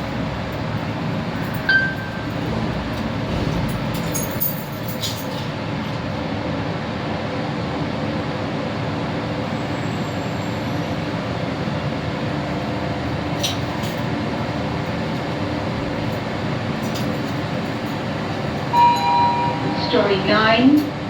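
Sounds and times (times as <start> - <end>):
lift car rumbling: 0.0 - 9.7, 10.4 - 21.0.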